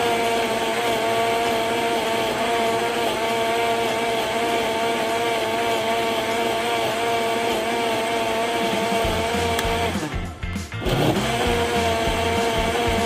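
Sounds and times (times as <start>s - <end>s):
blender motor whine: 0.0s - 13.0s
smoothie churning: 0.0s - 13.0s.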